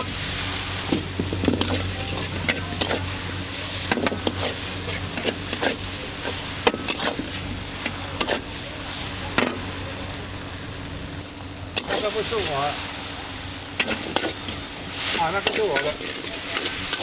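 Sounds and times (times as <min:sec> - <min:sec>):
metal spatula scraping a wok: 0:00.0 - 0:09.1, 0:11.7 - 0:17.0
food sizzling in a wok: 0:00.0 - 0:17.0.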